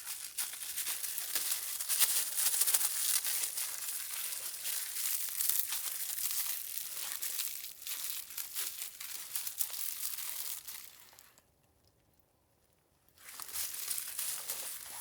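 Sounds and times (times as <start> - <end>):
rapid crinkling and crackling: 0.0 - 11.4, 13.2 - 15.0.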